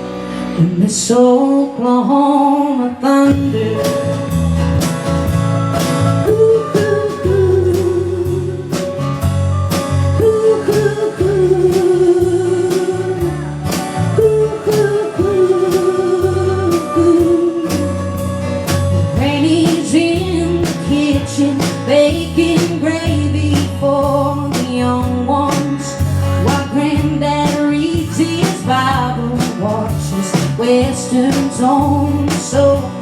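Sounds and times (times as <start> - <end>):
live band playing: 0.0 - 1.9, 3.1 - 33.0
lead melody with vibrato: 0.0 - 33.0.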